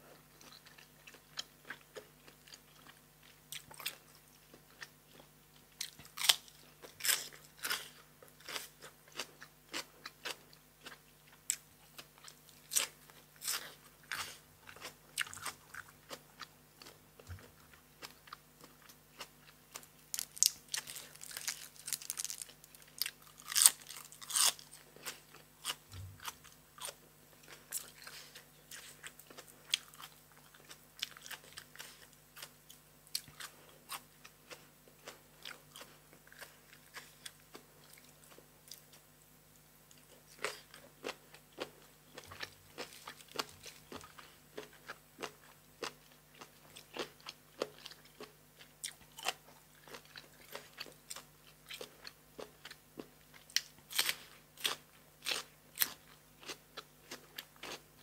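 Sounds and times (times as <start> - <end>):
person chewing with crunches: 0.0 - 39.1, 39.9 - 58.0.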